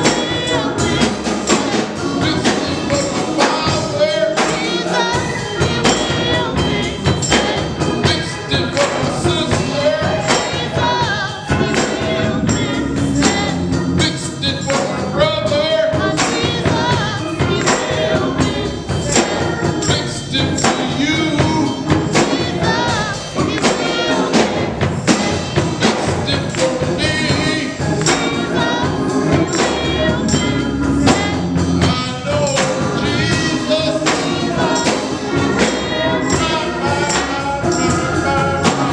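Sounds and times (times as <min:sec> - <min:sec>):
gospel choir with band: 0:00.0 - 0:38.9
tambourine beat: 0:00.0 - 0:38.9.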